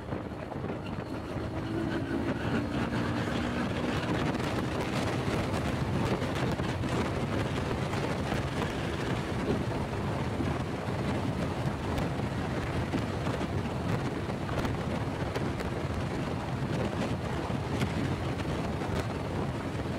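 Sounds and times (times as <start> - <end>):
wind rushing over microphone: 0.0 - 19.9.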